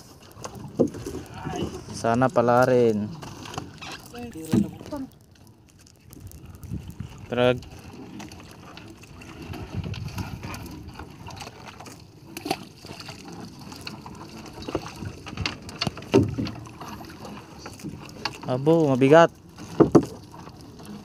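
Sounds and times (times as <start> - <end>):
water sloshing and dripping: 0.0 - 21.0.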